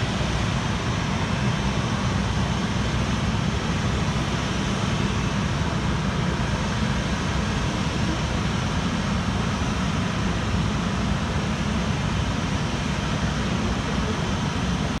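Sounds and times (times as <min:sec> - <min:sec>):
muffled jet engines idling: 0:00.0 - 0:15.0.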